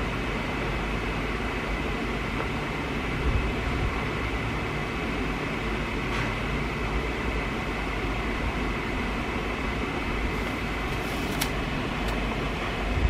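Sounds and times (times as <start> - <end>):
room noise hum and hiss: 0.0 - 13.0.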